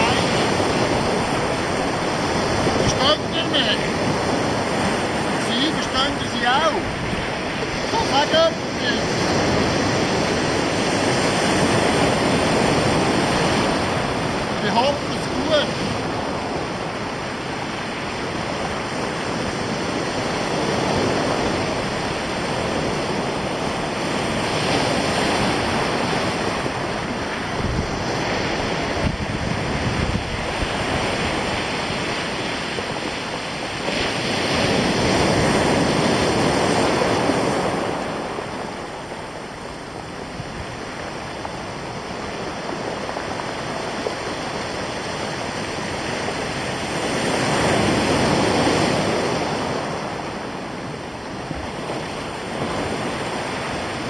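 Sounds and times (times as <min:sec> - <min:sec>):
surf breaking on stony beach: 0:00.0 - 0:54.0.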